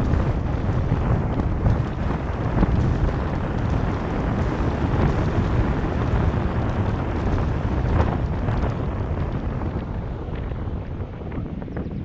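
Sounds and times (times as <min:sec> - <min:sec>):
car road noise: 0:00.0 - 0:12.0
faint crackles: 0:00.0 - 0:12.0
wind buffeting microphone: 0:00.0 - 0:12.0.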